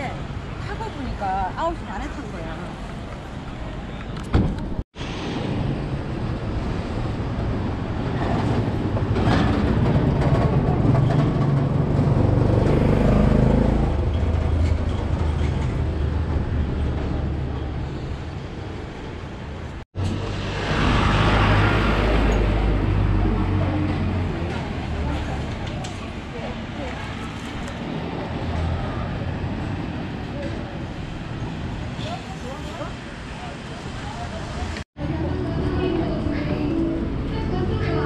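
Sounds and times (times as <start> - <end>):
city traffic rumble: 0.0 - 38.0.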